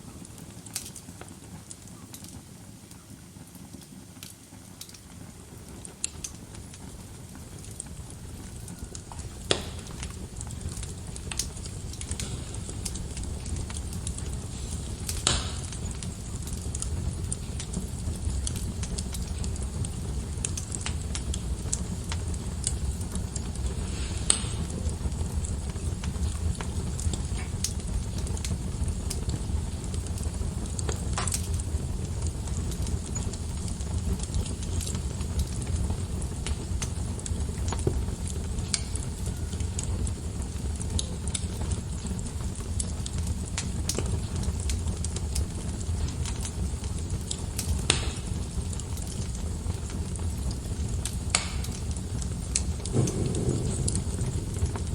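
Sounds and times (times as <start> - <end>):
wood fire crackling: 0.0 - 54.9
sharp fire pops: 3.8 - 54.9.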